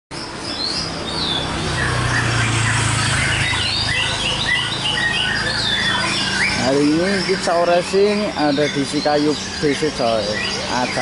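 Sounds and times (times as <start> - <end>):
songbirds singing and chirping: 0.1 - 11.0.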